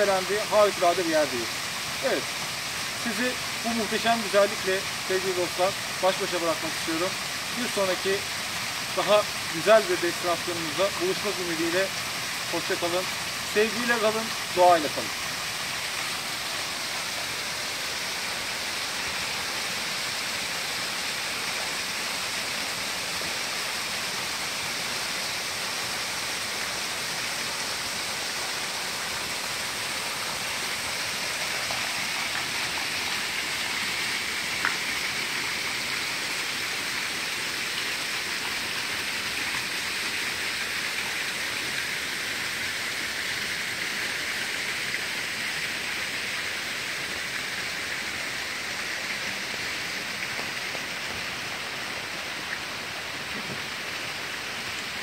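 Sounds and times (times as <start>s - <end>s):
waterfall pouring into pool: 0.0s - 55.0s.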